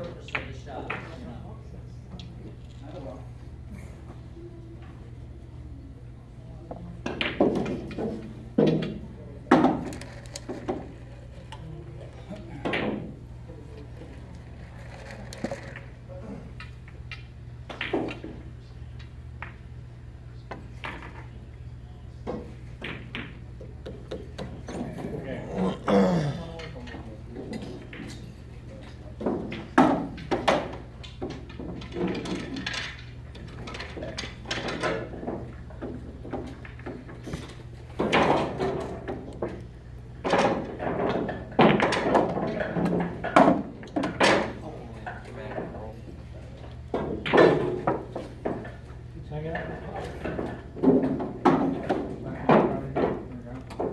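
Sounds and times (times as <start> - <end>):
low electrical hum: 0.0 - 53.9
pool balls clacking: 6.7 - 19.7, 20.5 - 21.3, 22.2 - 53.9.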